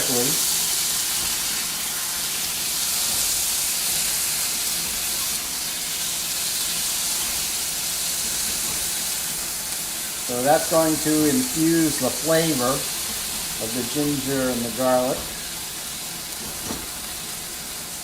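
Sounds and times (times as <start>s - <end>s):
meat sizzling in a wok: 0.0s - 18.0s.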